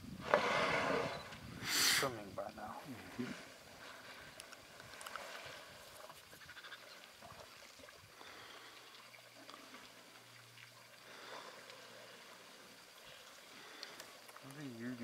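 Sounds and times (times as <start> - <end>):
water trickling: 2.3 - 15.0.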